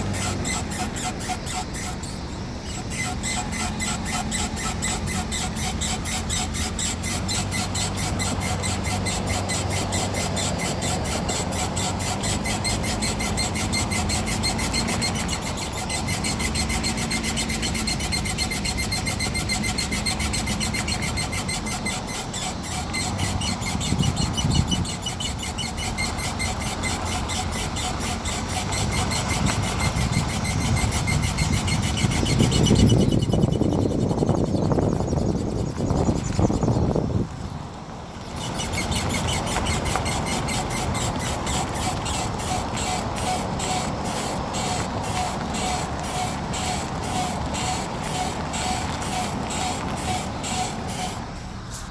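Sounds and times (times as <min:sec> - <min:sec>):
high chirping squeak: 0:00.0 - 0:37.5, 0:38.2 - 0:51.9
car engine humming: 0:00.0 - 0:51.9.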